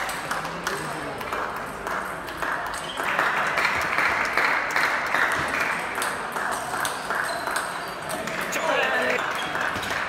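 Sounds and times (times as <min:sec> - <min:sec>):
people clapping: 0:00.0 - 0:10.0.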